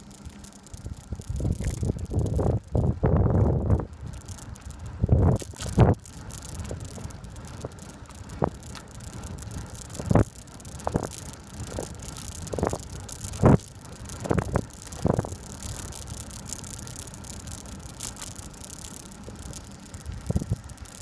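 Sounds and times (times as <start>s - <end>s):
bicycle knocking and rattling: 0.0s - 21.0s
bicycle tyre noise: 0.0s - 21.0s
wind noise: 0.8s - 17.3s, 19.2s - 21.0s.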